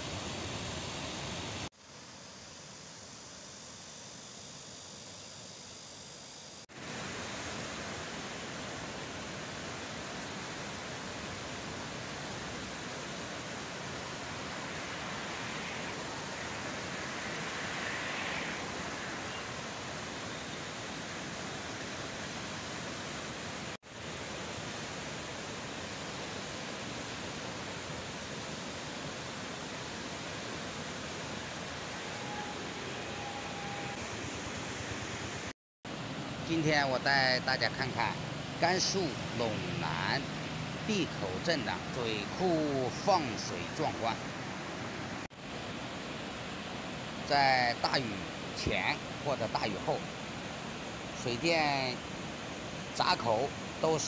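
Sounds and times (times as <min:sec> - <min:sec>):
river water rushing: 0:06.7 - 0:54.0.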